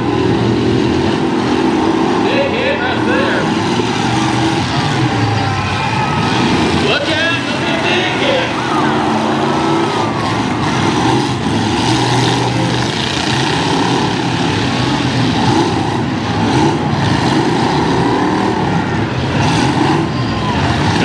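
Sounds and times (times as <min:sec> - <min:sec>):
several truck engines revving: 0:00.0 - 0:21.0.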